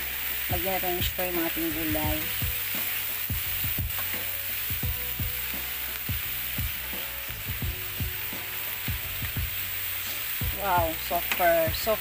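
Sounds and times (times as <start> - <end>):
shrimp sizzling in frying pan: 0.0 - 12.0.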